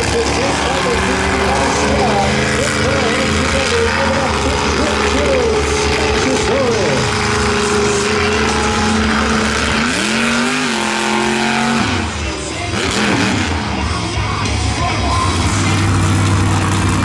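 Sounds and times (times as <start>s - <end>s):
monster truck engine revving: 0.0s - 17.0s
music playing: 0.0s - 17.0s.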